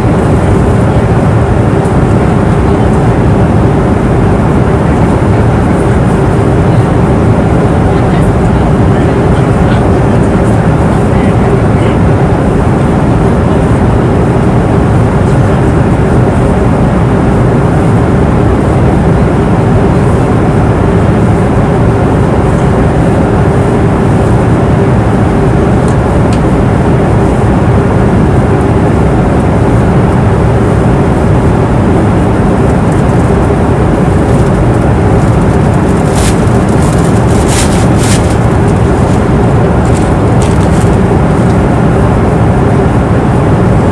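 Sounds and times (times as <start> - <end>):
airliner cabin engine noise: 0.0 - 43.9
faint steady hum: 0.0 - 43.9.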